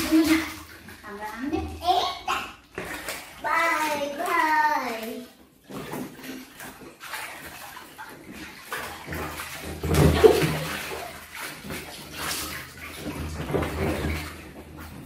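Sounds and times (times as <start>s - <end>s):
water splashing in paddling pool: 0.0s - 15.0s.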